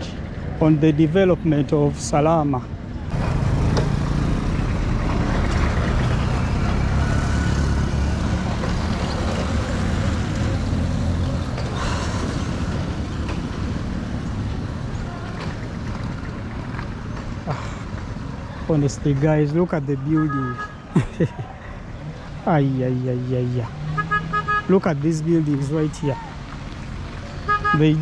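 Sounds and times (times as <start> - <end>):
motor vehicle passing: 3.1 - 20.6, 21.8 - 28.0.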